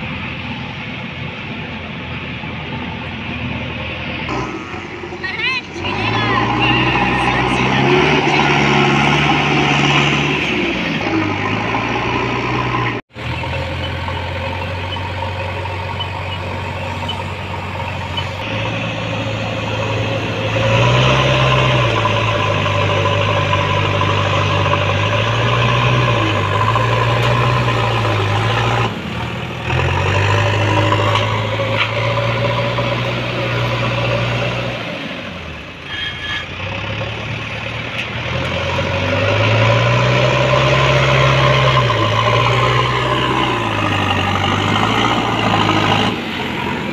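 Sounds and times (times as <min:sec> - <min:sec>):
heavy diesel engines revving: 0:00.0 - 0:46.9.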